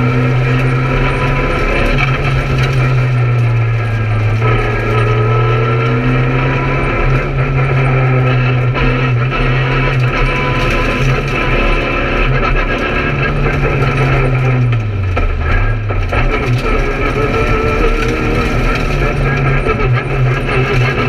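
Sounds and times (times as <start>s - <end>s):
rally car engine running hard: 0.0s - 21.0s.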